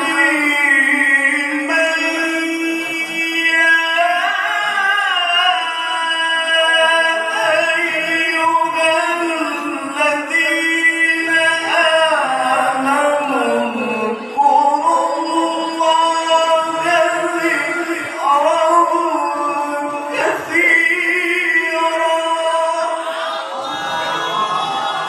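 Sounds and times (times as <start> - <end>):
man chanting into a microphone: 0.0 - 23.3.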